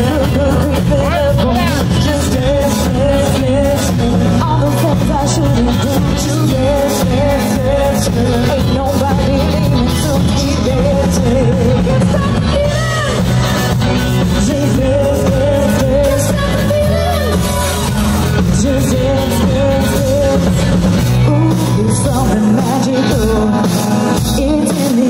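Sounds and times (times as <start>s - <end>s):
live rock band playing: 0.0s - 25.0s
woman singing: 0.0s - 25.0s.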